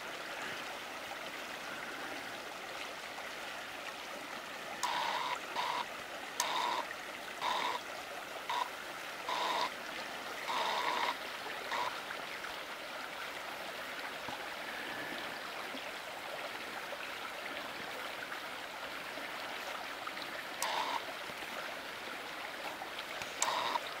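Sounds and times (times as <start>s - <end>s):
stream flowing over gravel: 0.0s - 24.0s.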